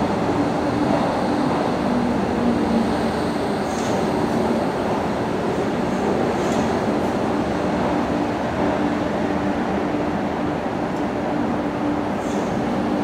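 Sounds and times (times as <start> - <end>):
train running past: 0.0 - 13.0
wheels rumbling on rail: 0.0 - 13.0.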